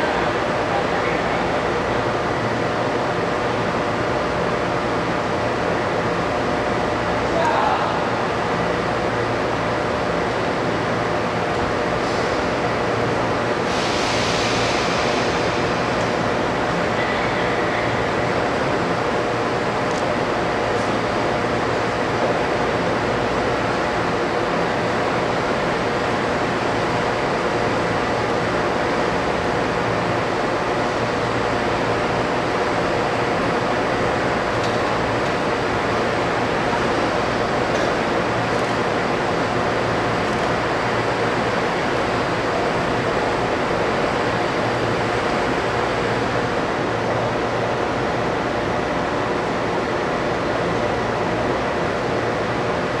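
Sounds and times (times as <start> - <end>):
machinery hum and rushing: 0.0 - 53.0.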